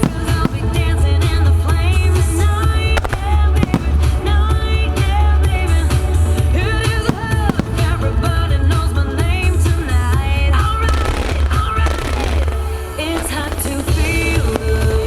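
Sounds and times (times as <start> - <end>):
firework bangs: 0.0 - 15.0
song over loudspeakers: 0.0 - 15.0.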